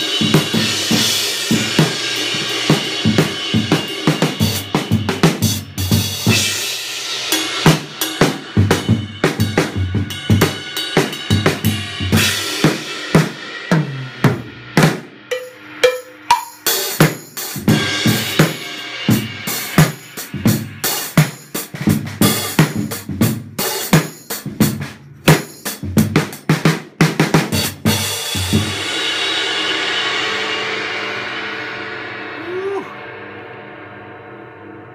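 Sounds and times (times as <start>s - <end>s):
drum kit groove: 0.0s - 33.0s.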